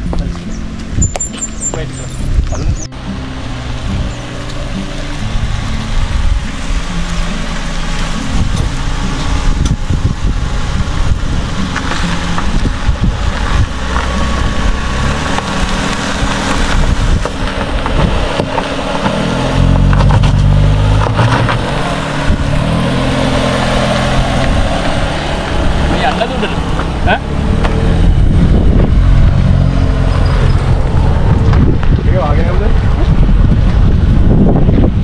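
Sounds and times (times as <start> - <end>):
vehicle engine and road rumble: 0.0 - 35.0.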